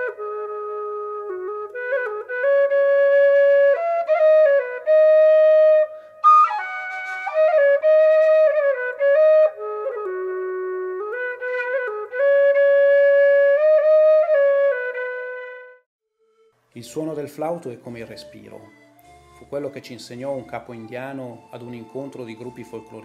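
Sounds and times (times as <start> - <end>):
solo flute melody: 0.0 - 23.0.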